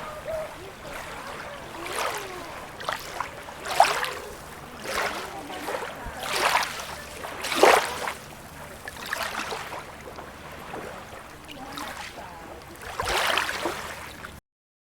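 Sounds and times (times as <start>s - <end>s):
river water running: 0.0s - 14.4s
small waves splashing: 0.0s - 14.4s.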